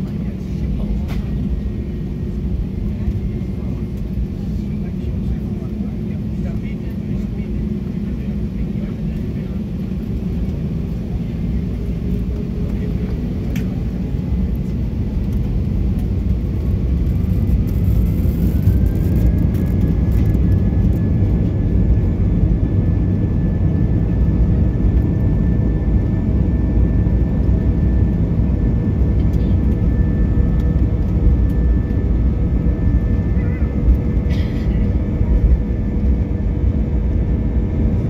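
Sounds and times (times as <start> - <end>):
jet engine whine: 0.0 - 38.0.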